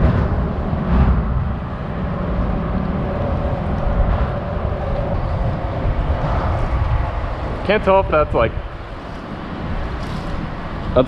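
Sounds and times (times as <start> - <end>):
traffic rumble on bridge: 0.0 - 11.0.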